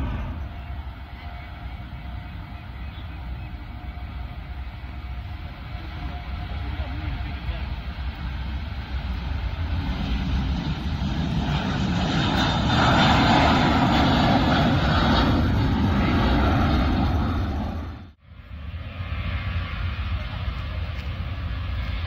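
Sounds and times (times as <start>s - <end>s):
jet engines at take-off thrust: 0.0s - 22.0s.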